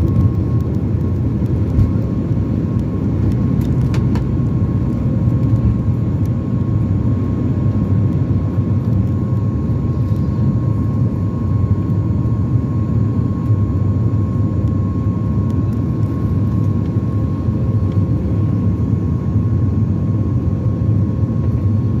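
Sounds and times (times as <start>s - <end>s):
jet engines at takeoff power: 0.0s - 22.0s.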